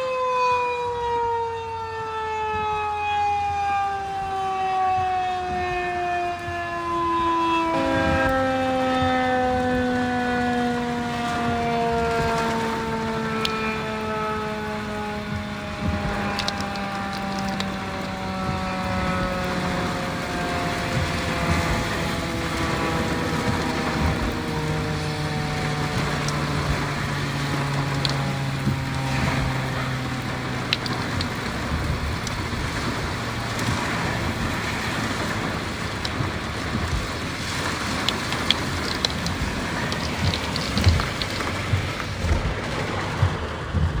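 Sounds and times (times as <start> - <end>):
warning siren winding down: 0.0 - 44.0.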